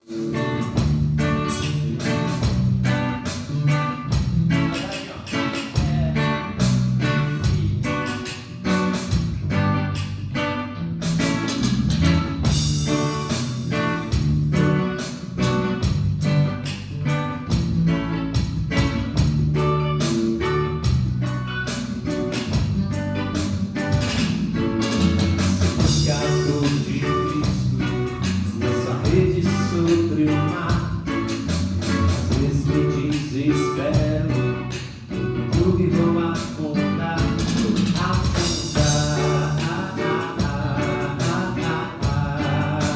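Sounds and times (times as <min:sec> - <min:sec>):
guitar and drums music: 0:00.0 - 0:42.9.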